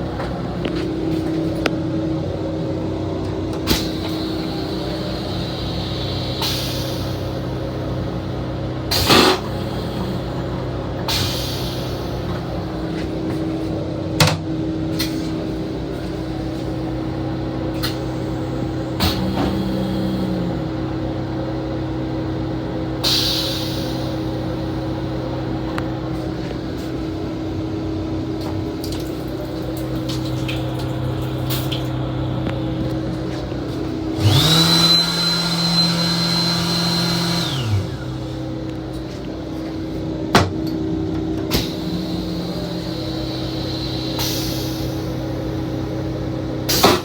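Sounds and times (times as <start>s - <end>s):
train interior hum: 0.0s - 47.0s.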